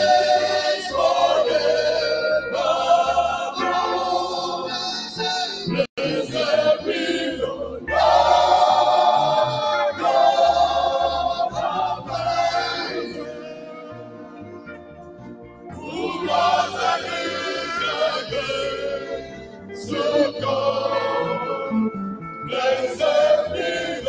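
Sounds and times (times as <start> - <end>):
choir singing: 0.0 - 14.8, 15.7 - 24.0
electric bass: 0.0 - 24.0
guitar: 0.0 - 24.0.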